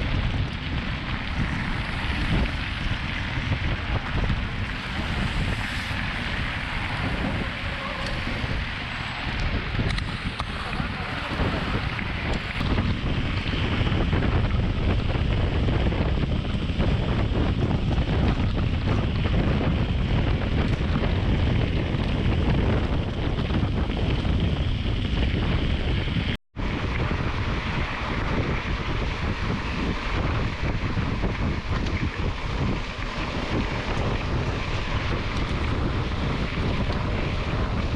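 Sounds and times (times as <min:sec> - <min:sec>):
bike tyres rolling on gravel: 0:00.0 - 0:37.9
wind buffeting microphone: 0:00.0 - 0:37.9.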